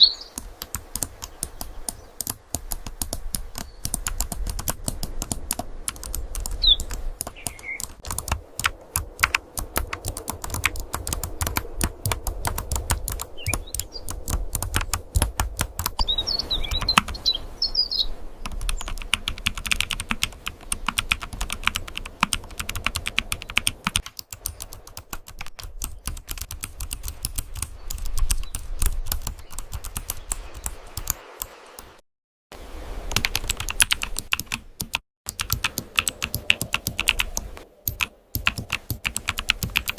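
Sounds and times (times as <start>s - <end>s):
keyboard typing: 0.4s - 16.0s, 18.4s - 31.2s, 33.1s - 39.9s.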